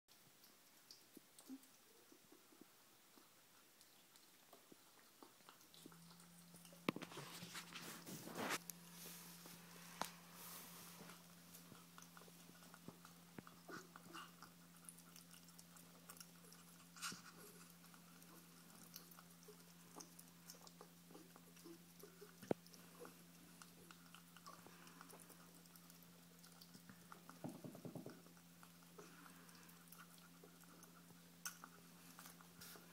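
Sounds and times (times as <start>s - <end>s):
ferrets chewing: 0.1s - 32.9s.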